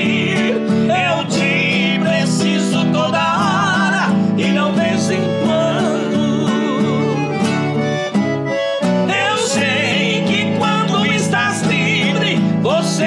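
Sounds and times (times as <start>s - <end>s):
accordion melody: 0.0s - 13.0s
acoustic guitar strumming: 0.0s - 13.0s.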